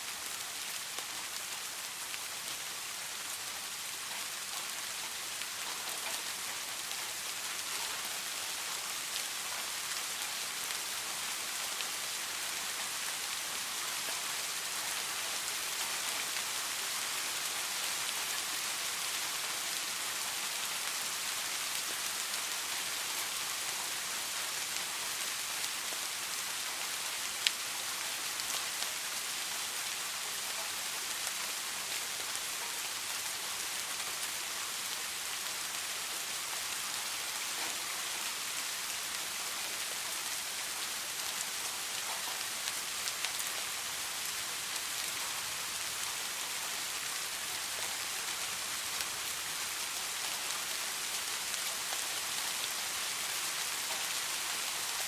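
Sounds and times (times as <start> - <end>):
soft rain falling: 0.0 - 55.0.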